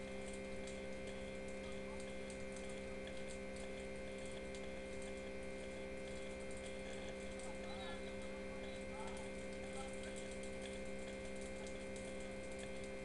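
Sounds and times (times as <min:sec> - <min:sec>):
bonfire crackling: 0:00.0 - 0:13.0
steady electrical hum: 0:00.0 - 0:13.0.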